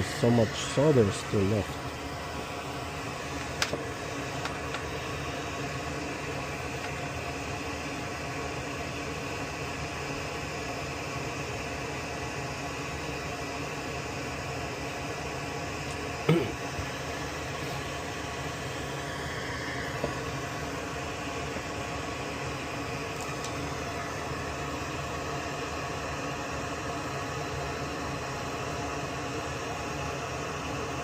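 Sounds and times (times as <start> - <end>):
electric fan whirring: 0.0 - 31.0.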